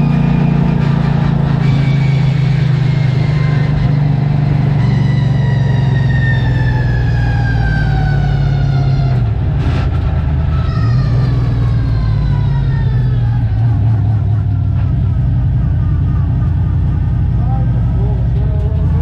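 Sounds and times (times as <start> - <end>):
high engine whine: 0.0 - 19.0
race car engine running: 0.0 - 19.0.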